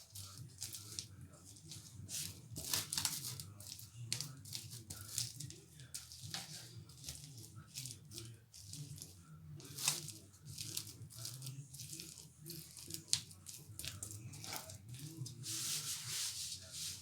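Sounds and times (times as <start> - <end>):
crunching and crinkling handling: 0.0 - 17.0
rustles and sharp clicks: 0.1 - 17.0.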